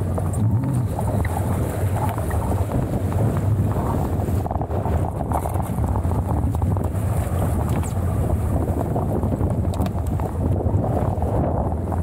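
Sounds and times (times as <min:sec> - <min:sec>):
water rushing past boat: 0:00.0 - 0:12.0
wind noise on microphone: 0:00.0 - 0:12.0.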